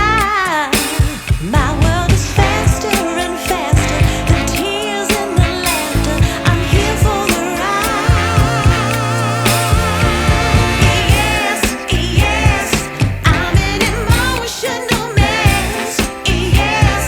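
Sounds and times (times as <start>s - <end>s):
song with steady beat: 0.0s - 17.0s.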